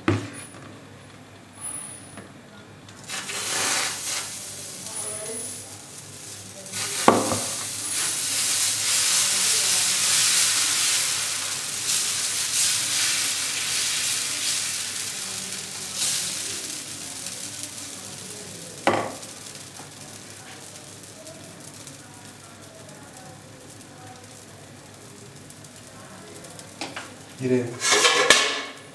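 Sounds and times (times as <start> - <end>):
batter sizzling on hot pan: 0.0 - 28.9.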